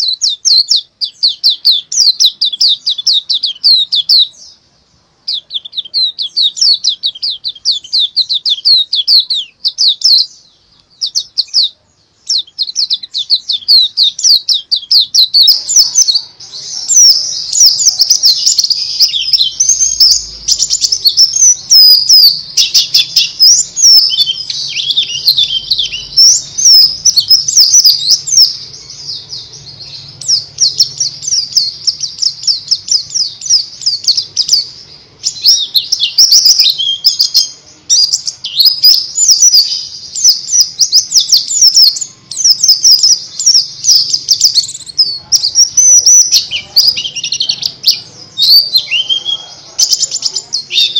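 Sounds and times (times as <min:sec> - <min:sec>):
bird twittering: 0:00.0 - 0:04.6, 0:05.2 - 0:50.9.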